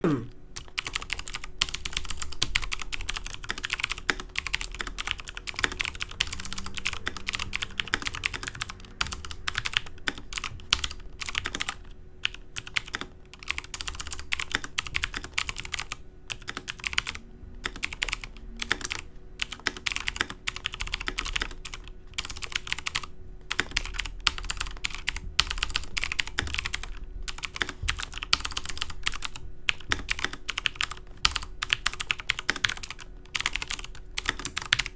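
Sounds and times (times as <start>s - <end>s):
clicky keyboard typing: 0.6s - 34.9s.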